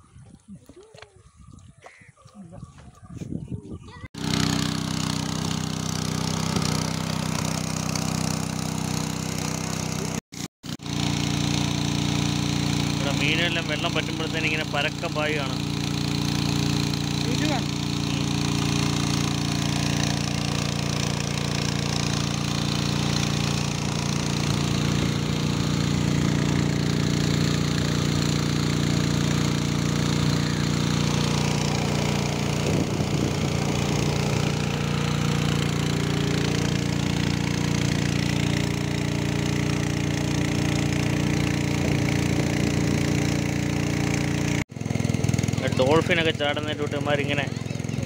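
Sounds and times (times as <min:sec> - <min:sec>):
engine-driven water pump humming: 0:03.9 - 0:48.0.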